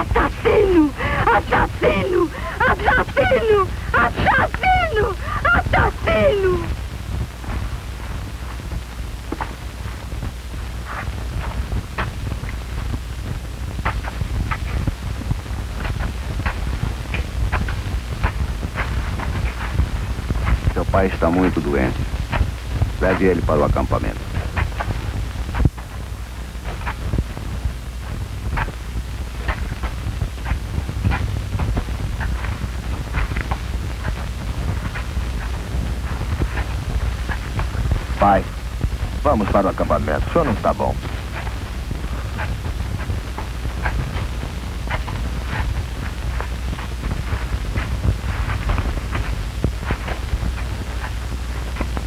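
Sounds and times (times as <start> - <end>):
film soundtrack hum and hiss: 0.0 - 52.0.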